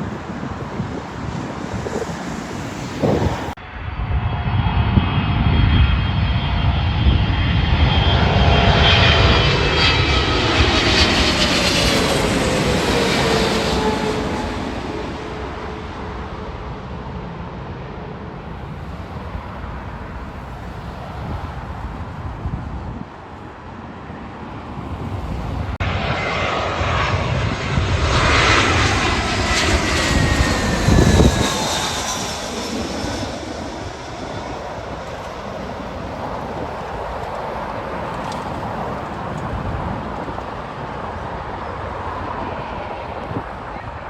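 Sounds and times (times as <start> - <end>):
falling engine whine: 0.0 - 16.4, 24.7 - 44.0
airliner passing: 0.0 - 44.0.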